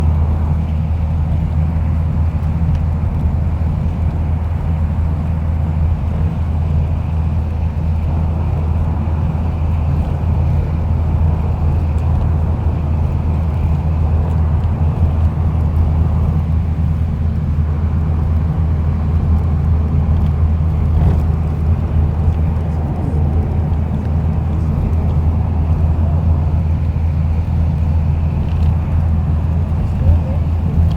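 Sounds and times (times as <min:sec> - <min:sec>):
volcano deep rumble: 0:00.0 - 0:30.9.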